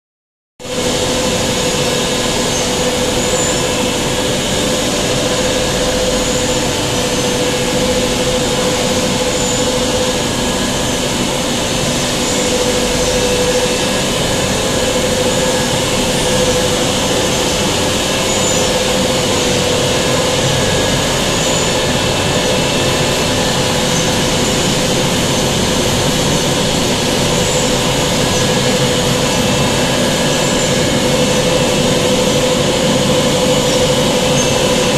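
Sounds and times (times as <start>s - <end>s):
steady hum: 0.6s - 34.9s.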